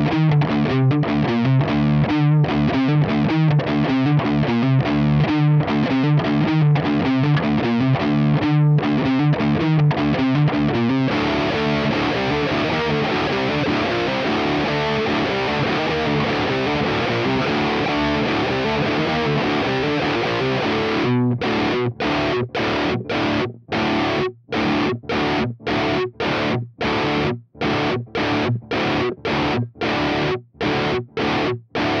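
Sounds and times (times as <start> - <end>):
distorted electric guitar riffing: 0.0 - 32.0.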